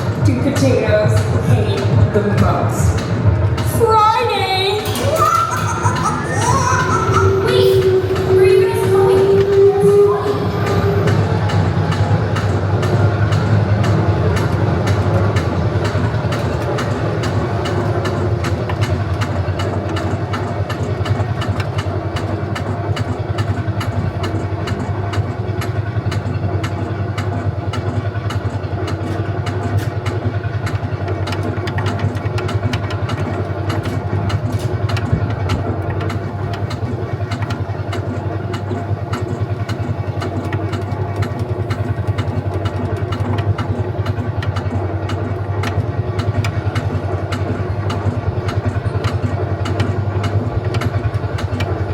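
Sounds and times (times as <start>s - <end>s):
ride vehicle low hum: 0.0s - 51.9s
small clicks and clatter: 4.7s - 51.9s.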